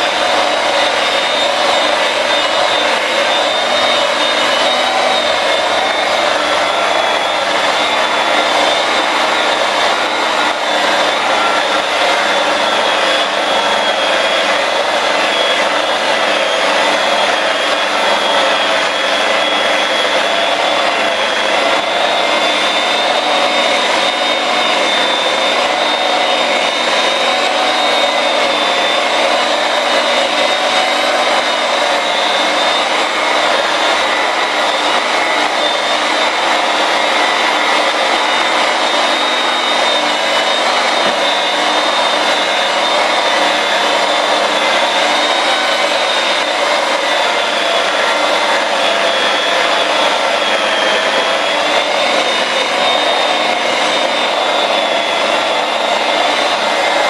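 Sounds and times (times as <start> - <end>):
rotary polisher motor whine: 0.0 - 57.0.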